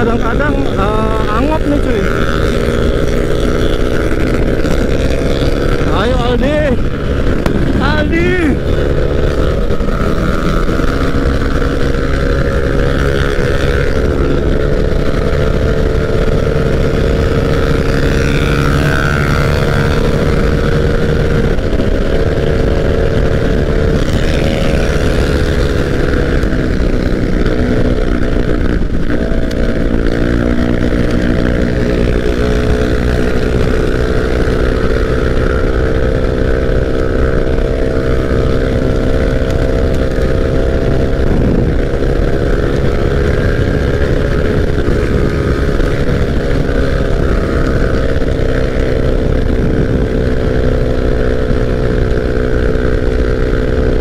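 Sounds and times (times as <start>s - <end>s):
scooter engine at high speed: 0.0s - 54.0s
wind noise: 0.0s - 54.0s.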